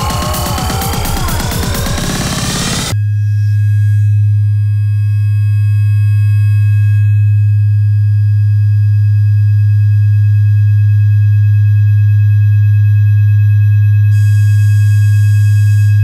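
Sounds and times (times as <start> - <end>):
low electronic hum: 0.0 - 16.0.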